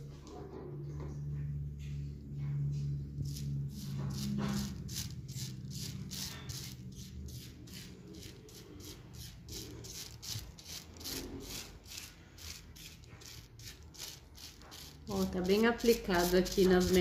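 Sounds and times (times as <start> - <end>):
brush rustling on wet hair and plastic: 3.2 - 17.0.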